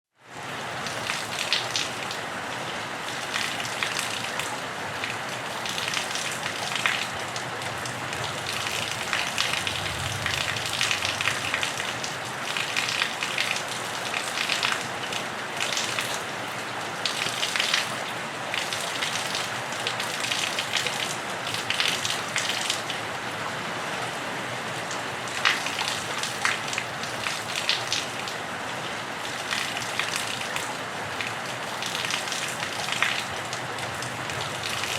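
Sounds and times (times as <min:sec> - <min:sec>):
rain falling on a roof: 0:00.2 - 0:34.9.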